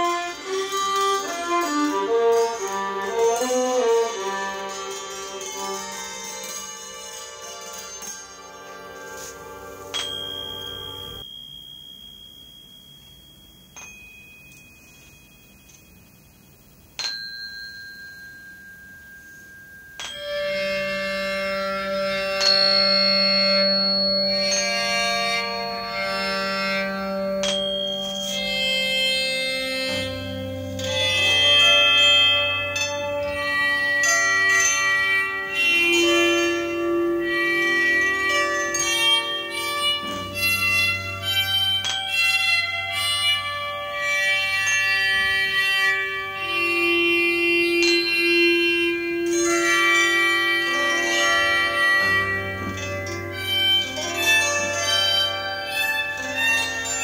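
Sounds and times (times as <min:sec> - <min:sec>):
clear struck tones ringing: 0:00.1 - 0:57.0.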